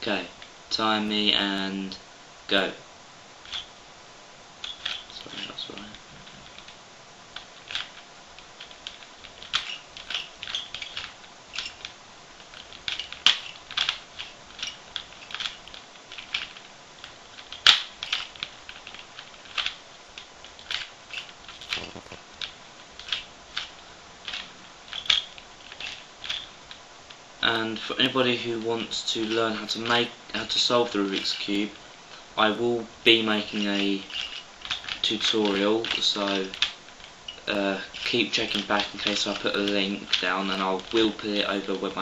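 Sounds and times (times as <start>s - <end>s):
puzzle cube layers clicking: 4.6s - 6.8s, 7.4s - 31.8s, 32.5s - 42.0s.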